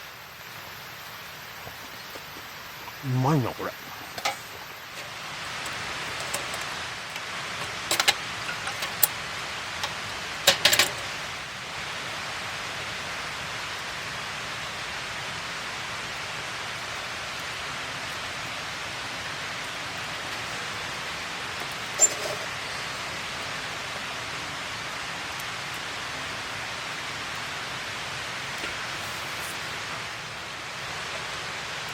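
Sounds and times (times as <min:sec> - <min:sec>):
campfire crackling: 0:00.0 - 0:31.9.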